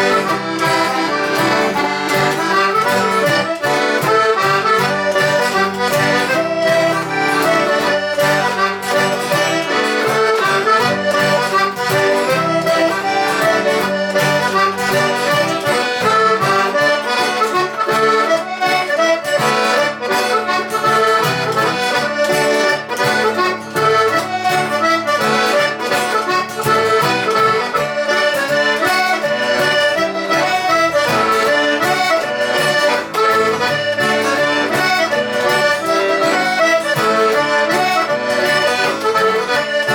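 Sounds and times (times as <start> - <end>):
accordion music: 0.0 - 39.9
guitar accompaniment: 0.0 - 39.9.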